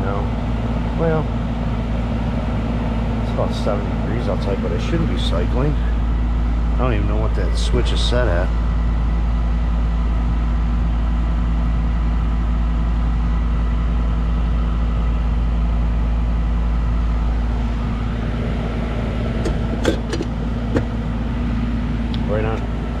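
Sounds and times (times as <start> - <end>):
air conditioner unit humming: 0.0 - 23.0.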